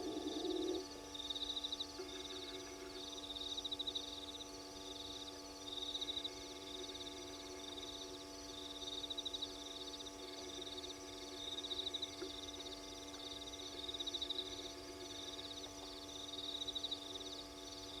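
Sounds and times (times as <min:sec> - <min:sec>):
insects trilling: 0:00.0 - 0:18.0
low electrical hum: 0:00.0 - 0:18.0.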